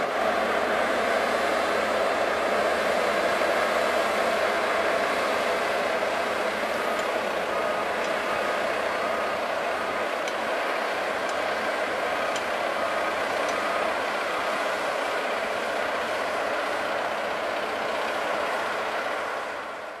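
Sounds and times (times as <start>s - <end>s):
asphalt roller engine running: 0.0s - 20.0s.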